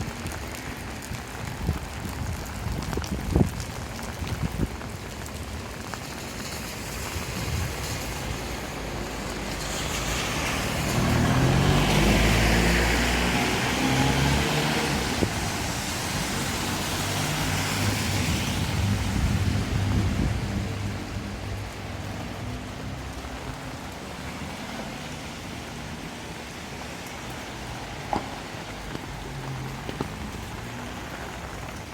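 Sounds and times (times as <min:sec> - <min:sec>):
steady rain: 0:00.0 - 0:31.9
car driving past on wet street: 0:05.2 - 0:31.9.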